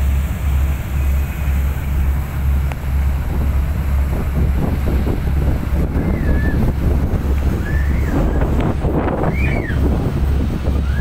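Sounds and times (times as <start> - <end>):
heavy engine rumble: 0.0 - 11.0
wind buffeting microphone: 0.0 - 11.0.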